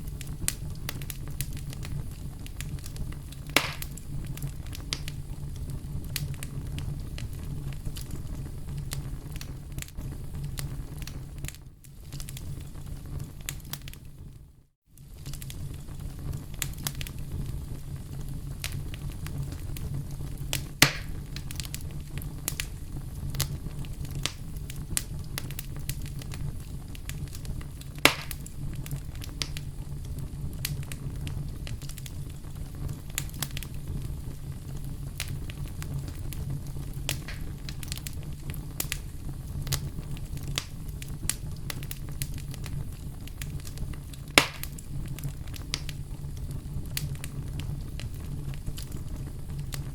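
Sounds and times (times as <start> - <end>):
campfire crackling: 0.0 - 14.2, 14.9 - 49.9
loud fire cracks: 0.0 - 14.2, 14.9 - 49.9.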